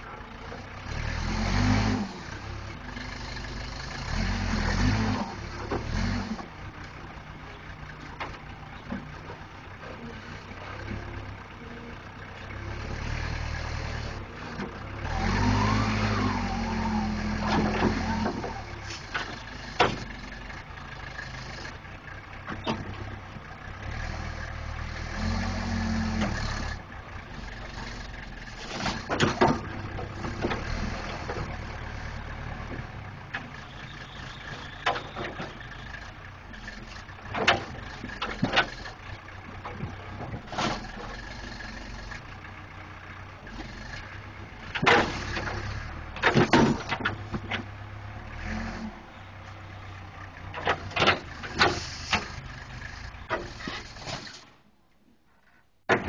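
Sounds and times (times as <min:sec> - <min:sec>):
diesel engine revving under load: 0:00.0 - 0:54.8.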